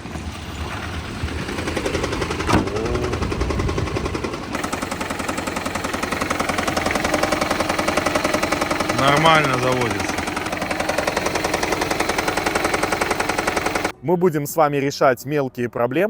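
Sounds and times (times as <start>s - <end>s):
car engine starting: 0.0s - 13.9s
engine knocking: 0.2s - 13.9s.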